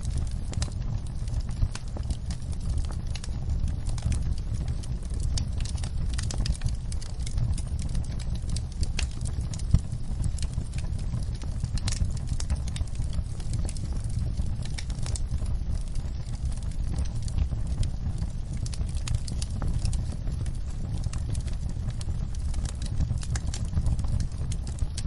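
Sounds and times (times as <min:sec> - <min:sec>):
fire popping and snapping: 0:00.0 - 0:25.0
wood fire crackling: 0:00.0 - 0:25.0.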